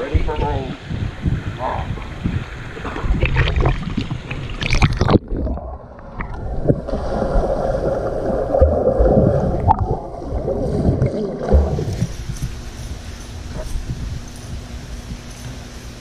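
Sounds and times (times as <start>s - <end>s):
underwater bubbling and churning: 0.0s - 15.3s.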